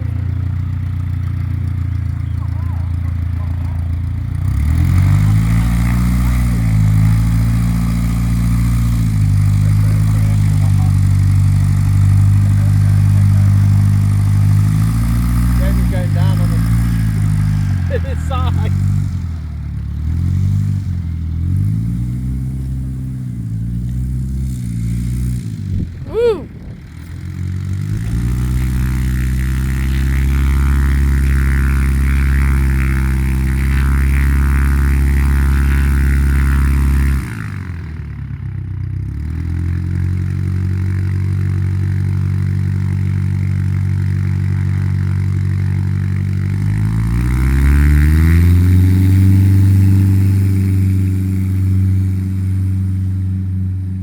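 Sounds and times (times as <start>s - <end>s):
light aircraft piston engine: 0.0s - 54.0s.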